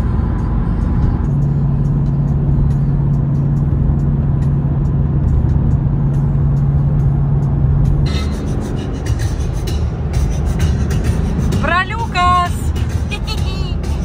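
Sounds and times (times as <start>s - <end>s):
car engine droning: 0.0s - 14.0s
road and tyre rumble: 0.0s - 14.0s.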